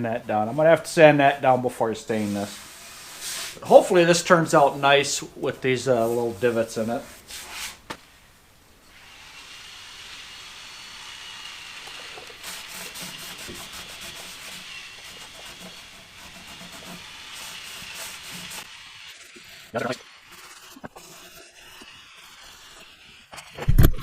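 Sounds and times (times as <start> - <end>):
sanding wood: 2.1 - 7.8, 9.0 - 23.7.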